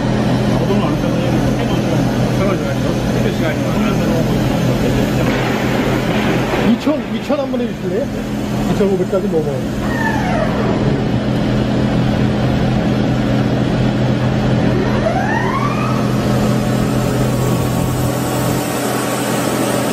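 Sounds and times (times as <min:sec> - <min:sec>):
boring mill running: 0:00.0 - 0:19.9.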